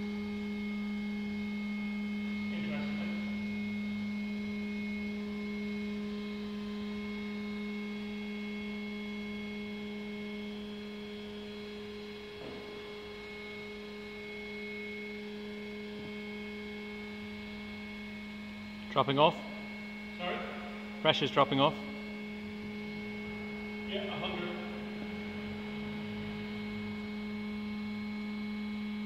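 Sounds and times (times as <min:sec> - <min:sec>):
hydraulic power unit humming: 0:00.0 - 0:29.0.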